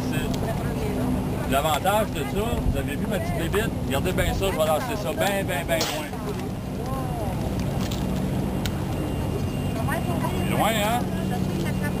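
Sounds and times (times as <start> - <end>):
wind rumble on microphone: 0.0 - 9.9.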